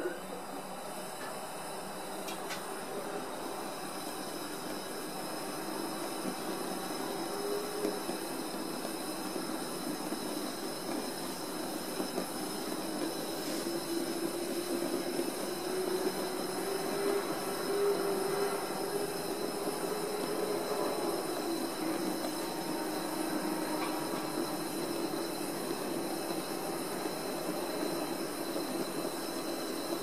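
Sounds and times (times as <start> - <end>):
fan heater rushing: 0.0 - 30.0.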